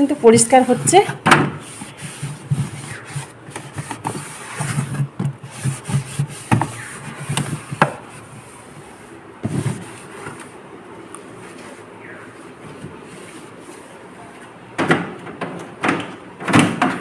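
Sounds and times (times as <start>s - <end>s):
cloth wiping plastic walls: 0.0s - 10.7s, 11.3s - 14.6s.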